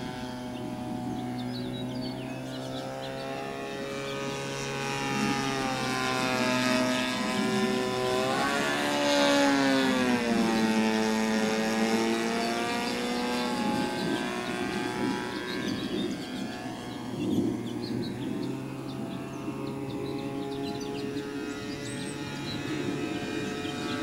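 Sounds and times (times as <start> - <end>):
model airplane engine and propeller: 0.0 - 24.0.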